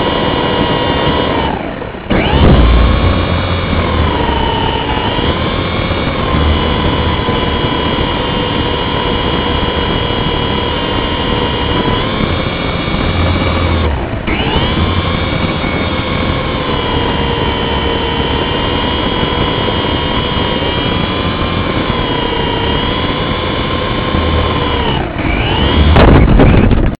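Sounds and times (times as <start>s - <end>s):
small motor whining: 0.0s - 26.9s
rough rushing noise: 1.4s - 18.5s, 20.7s - 27.0s.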